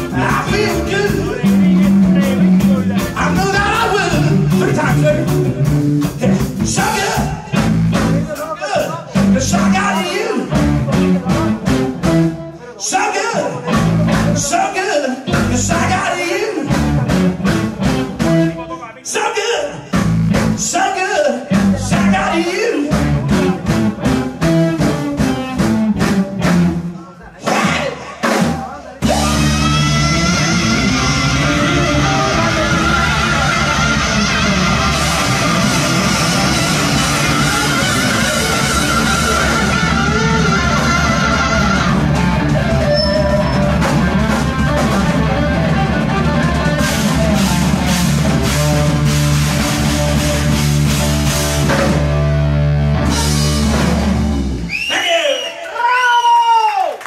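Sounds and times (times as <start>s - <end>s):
electric guitar: 0.0s - 8.3s, 9.0s - 12.8s, 13.5s - 14.5s, 15.2s - 18.7s, 21.4s - 27.0s, 29.0s - 54.8s
drum kit: 0.0s - 12.6s, 13.5s - 14.7s, 15.3s - 18.7s, 19.8s - 55.1s
bass guitar: 0.0s - 18.8s, 19.6s - 54.9s.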